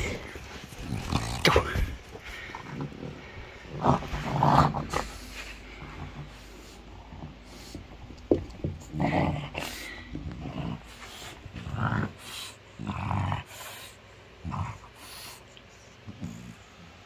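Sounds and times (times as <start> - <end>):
dog growling and grunting: 0.0 - 17.0.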